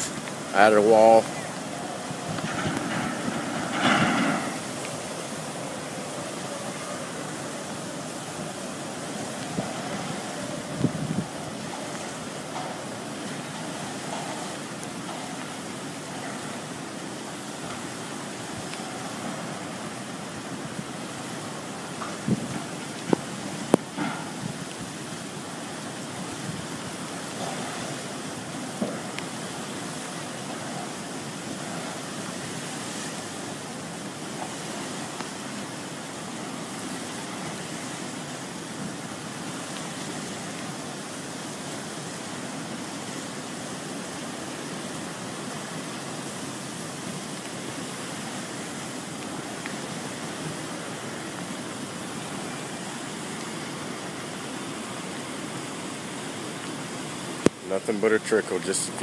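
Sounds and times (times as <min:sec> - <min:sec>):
flood water rushing: 0:00.0 - 0:59.0.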